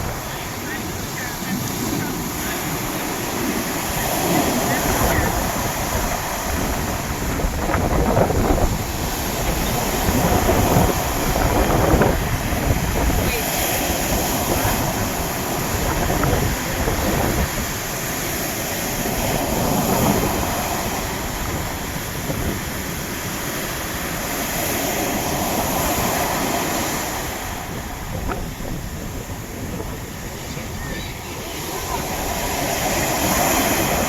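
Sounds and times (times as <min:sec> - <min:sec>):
sea waves breaking: 0:00.0 - 0:34.0
wind rumbling on microphone: 0:00.0 - 0:34.0.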